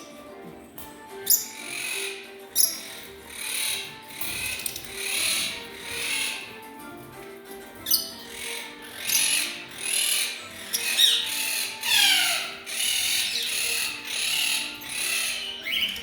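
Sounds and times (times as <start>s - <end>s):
birds screeching: 1.2s - 16.0s.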